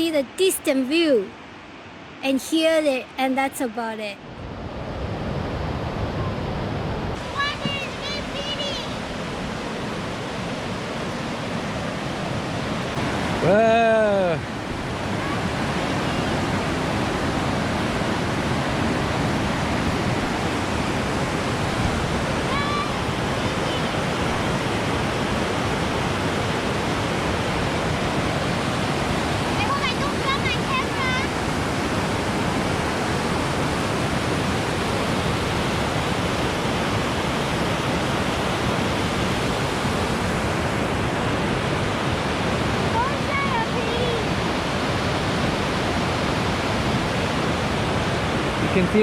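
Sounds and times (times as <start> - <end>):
waterfall rushing: 7.2 - 49.0.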